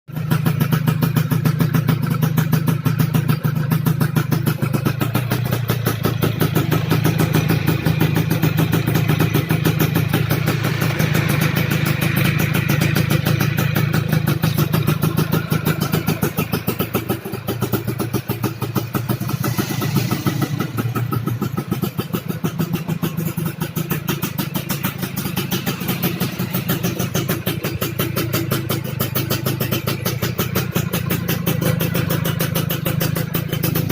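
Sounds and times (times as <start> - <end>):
two-stroke engine running: 0.1 - 33.9.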